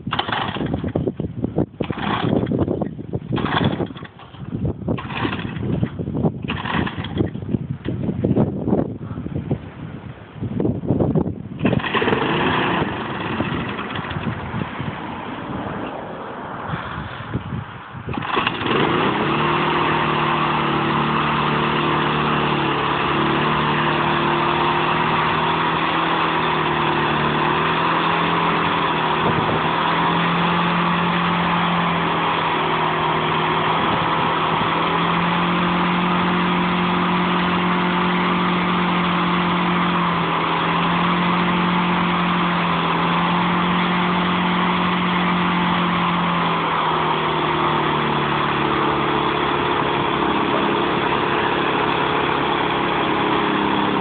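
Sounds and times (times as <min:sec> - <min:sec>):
lawnmower engine running: 0:00.0 - 0:54.0.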